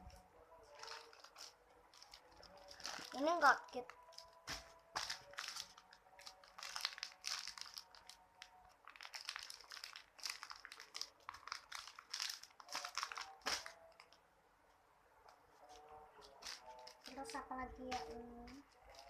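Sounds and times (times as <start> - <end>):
packaging crinkling and rustling: 0.7 - 14.2, 15.6 - 19.0.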